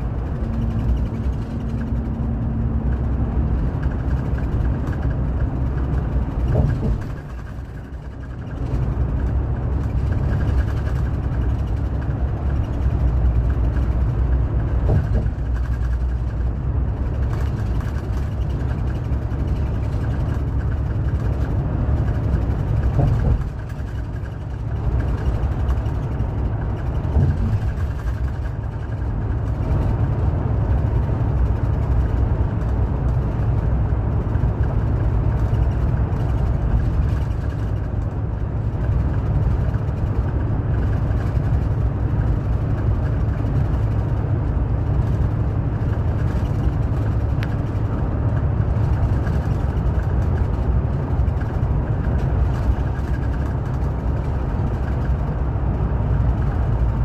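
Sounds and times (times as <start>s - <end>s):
coach engine and tyres drone: 0.0s - 57.0s.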